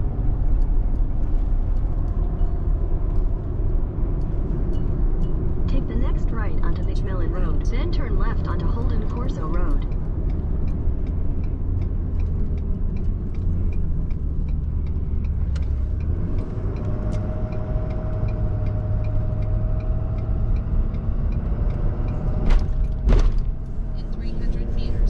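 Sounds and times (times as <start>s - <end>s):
light regular ticking: 0.0s - 25.0s
road noise and engine rumble: 0.0s - 25.0s.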